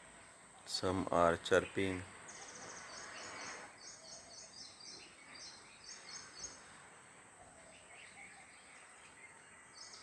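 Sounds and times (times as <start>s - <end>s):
small birds chirping: 0.2s - 6.8s, 7.4s - 10.0s.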